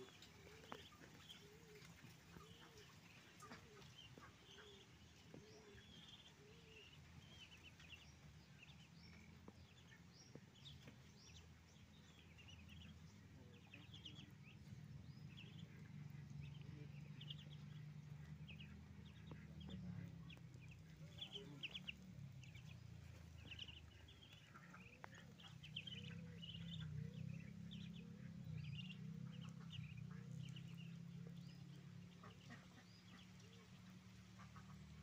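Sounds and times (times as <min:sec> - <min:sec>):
ducklings peeping: 0:00.0 - 0:35.0
low steady hum: 0:00.0 - 0:35.0.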